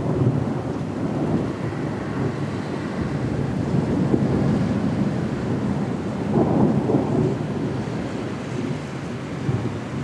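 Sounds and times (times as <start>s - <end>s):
thunder rumbling: 0.0s - 10.0s.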